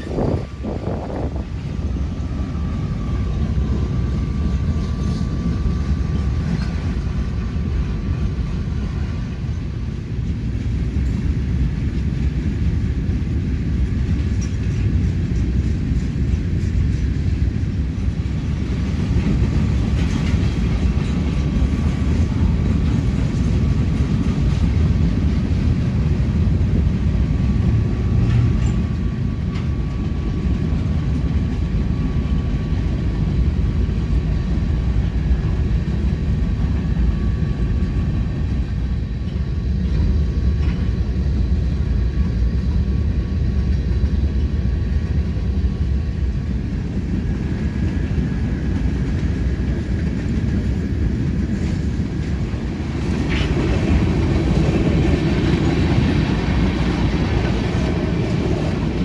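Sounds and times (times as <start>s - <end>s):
steel train wheels rumbling on rails: 0.0s - 59.0s.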